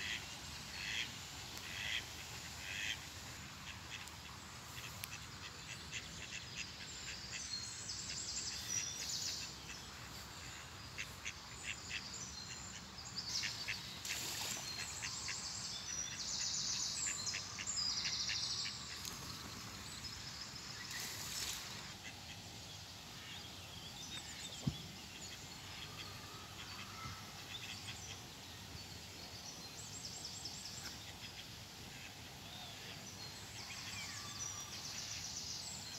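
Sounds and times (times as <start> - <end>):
low background noise: 0.0 - 35.9
songbirds singing: 3.9 - 35.9.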